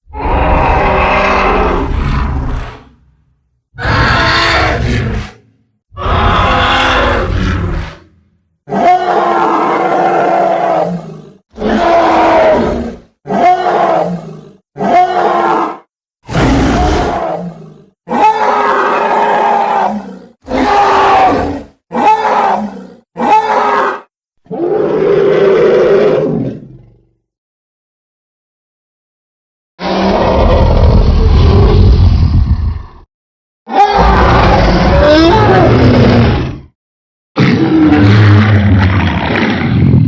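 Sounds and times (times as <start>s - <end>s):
cartoon creature roars and growls: 0.0s - 3.1s, 3.8s - 27.1s, 29.8s - 33.1s, 33.7s - 36.8s, 37.4s - 40.0s.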